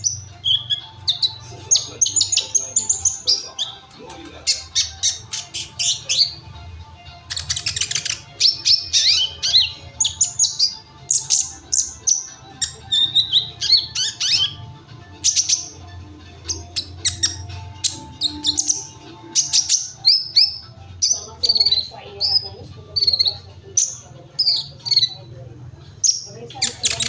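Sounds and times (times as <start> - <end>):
sunbird singing: 0.0 - 27.0.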